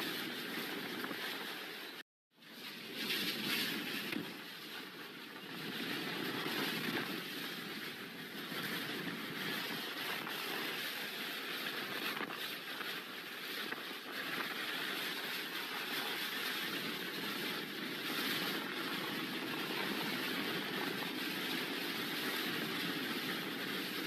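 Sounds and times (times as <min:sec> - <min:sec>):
hurricane-force wind blowing: 0:02.7 - 0:24.0.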